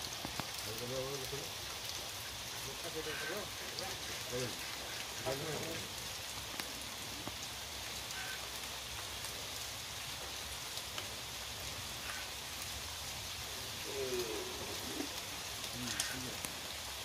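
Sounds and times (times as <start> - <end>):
heavy rain falling: 0.0 - 17.0
individual raindrops ticking: 0.0 - 17.0.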